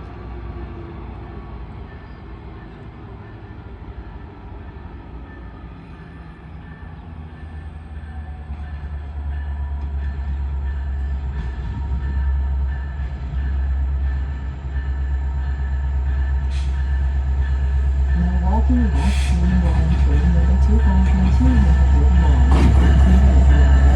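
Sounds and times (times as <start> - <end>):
train rumbling: 0.0 - 23.9.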